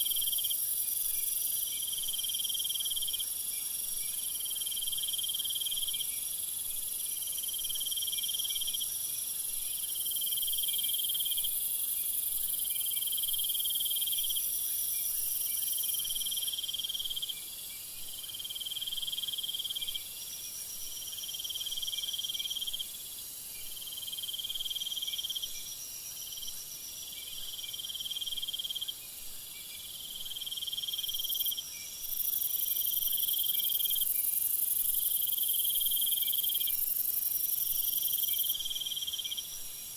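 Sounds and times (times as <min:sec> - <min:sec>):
continuous high insect trill: 0:00.0 - 0:39.9.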